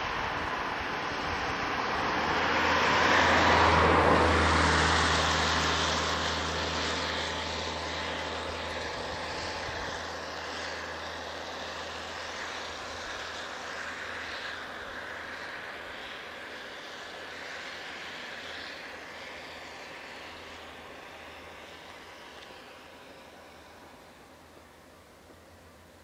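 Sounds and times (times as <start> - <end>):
motor vehicle passing by: 0.0 - 26.0.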